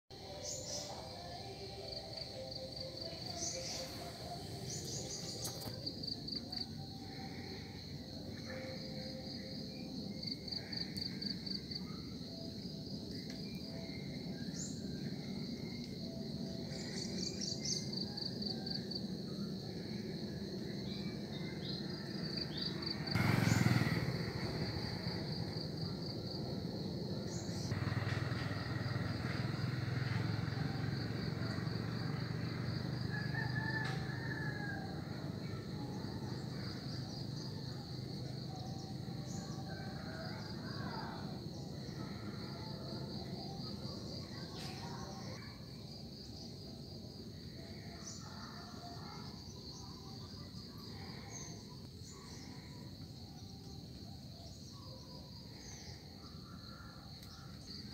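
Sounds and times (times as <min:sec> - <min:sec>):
insects chirping: 0:00.1 - 0:57.9.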